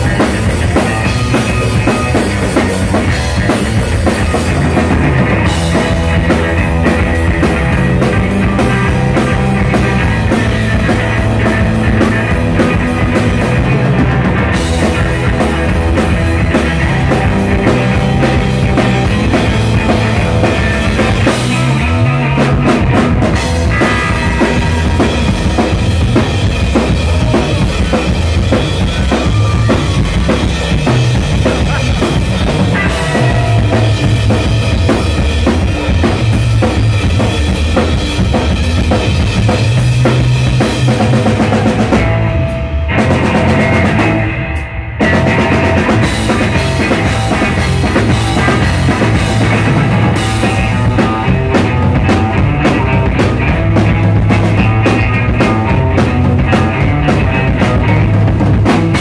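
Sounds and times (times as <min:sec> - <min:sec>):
drum kit beat: 0:00.0 - 0:59.0
electric bass: 0:00.0 - 0:59.0
electric guitar: 0:00.0 - 0:59.0.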